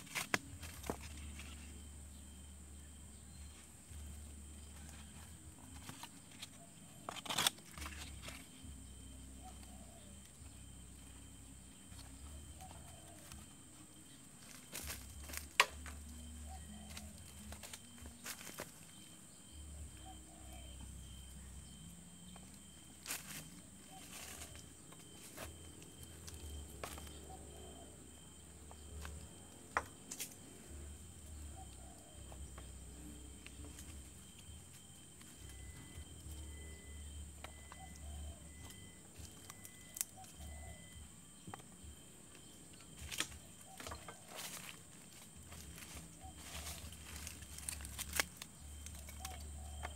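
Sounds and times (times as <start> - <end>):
egg trays and sticks handled: 0.0 - 49.9.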